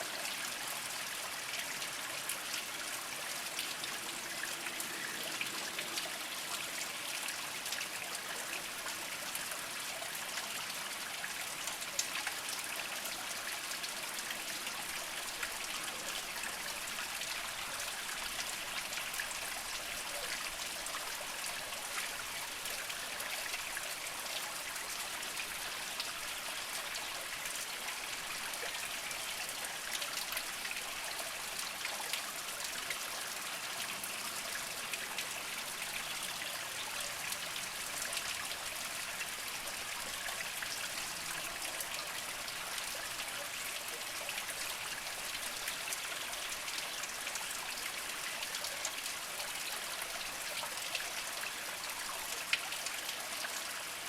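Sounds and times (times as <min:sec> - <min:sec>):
spring water trickling over rocks: 0:00.0 - 0:54.0
water drips and splashes: 0:00.1 - 0:54.0.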